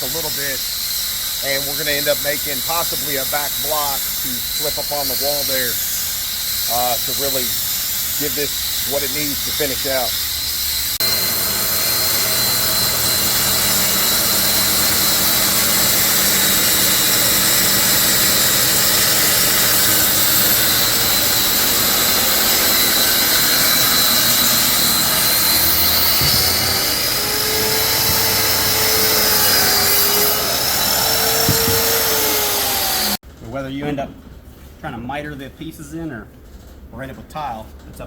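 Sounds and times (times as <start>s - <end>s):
woodworking power tool whining: 0.0s - 33.2s.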